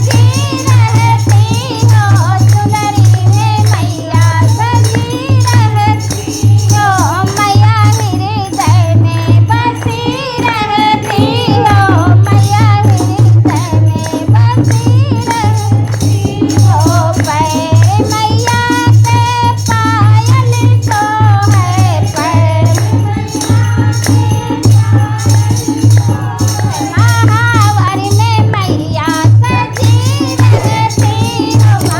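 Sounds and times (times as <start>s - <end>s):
drum beat: 0.0s - 31.9s
jingling percussion: 0.0s - 31.9s.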